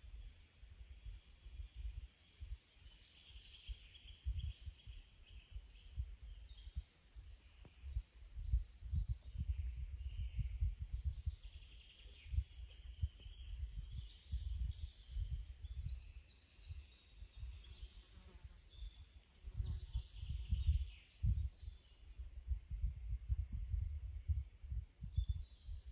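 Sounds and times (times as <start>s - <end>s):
birds chirping: 1.0s - 24.4s
wind buffeting microphone: 3.4s - 17.9s, 18.7s - 25.9s.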